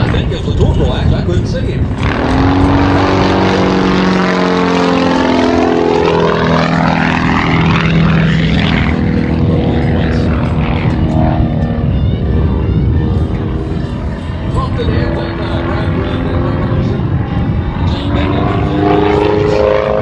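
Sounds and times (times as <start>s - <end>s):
biplane engine and propeller flypast: 0.0s - 20.0s.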